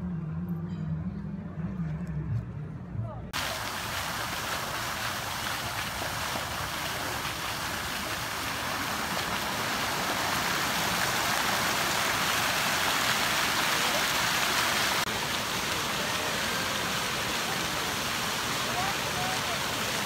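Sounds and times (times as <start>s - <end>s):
fountain water splashing: 3.4s - 20.0s.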